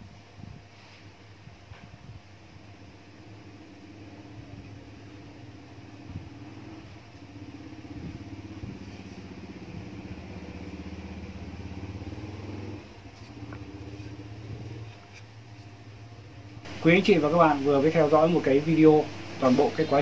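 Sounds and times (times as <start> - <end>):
motor humming: 2.8 - 20.0.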